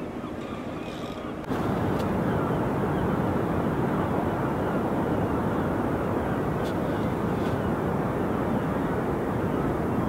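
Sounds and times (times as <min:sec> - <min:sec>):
sea noise: 0:00.0 - 0:10.0
wind: 0:00.0 - 0:10.0.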